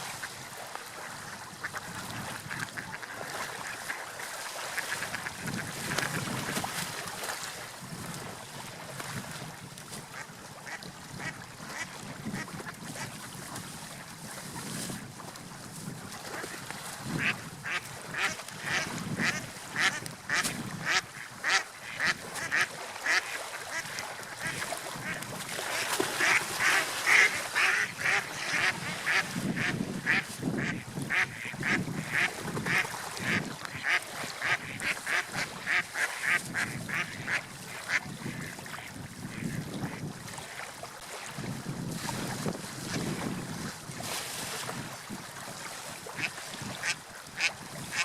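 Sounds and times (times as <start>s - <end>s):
water: 0.0s - 48.0s
wind: 0.0s - 48.0s.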